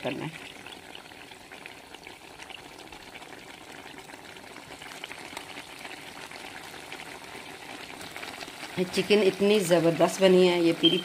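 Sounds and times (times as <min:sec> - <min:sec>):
food bubbling in pan: 0:00.0 - 0:11.0.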